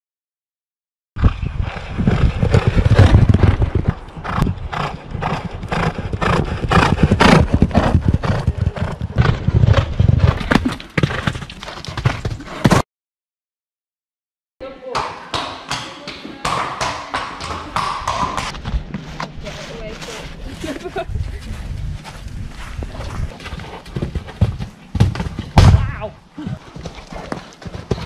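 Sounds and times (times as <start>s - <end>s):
horses galloping hoofbeats: 1.2s - 12.8s, 14.9s - 28.0s.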